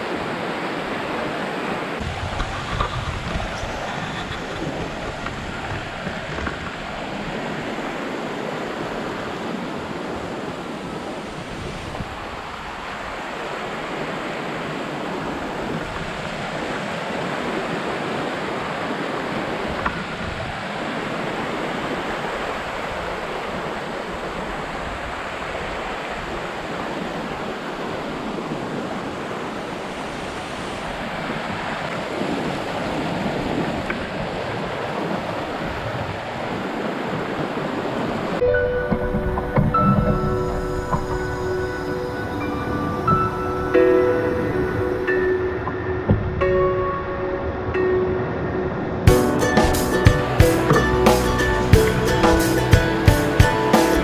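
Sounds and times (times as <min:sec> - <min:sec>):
rushing mountain stream: 0:00.0 - 0:54.0.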